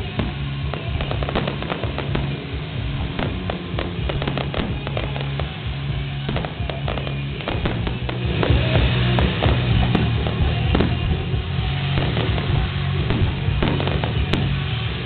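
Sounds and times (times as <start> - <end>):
fireworks bursting with sharp bangs: 0.0 - 15.0
music: 0.0 - 15.0.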